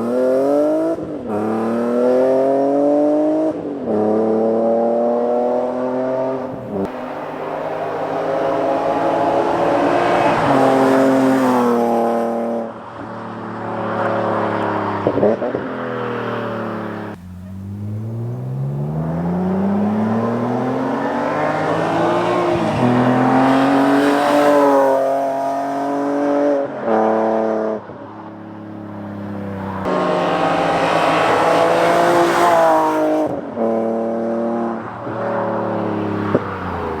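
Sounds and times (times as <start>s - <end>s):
car accelerating through gears: 0.0s - 27.8s, 29.0s - 37.0s.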